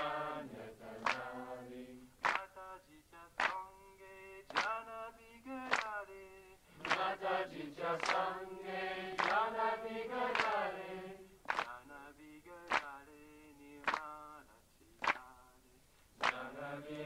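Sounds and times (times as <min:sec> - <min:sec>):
group singing devotional song: 0:00.0 - 0:15.2, 0:16.2 - 0:17.0.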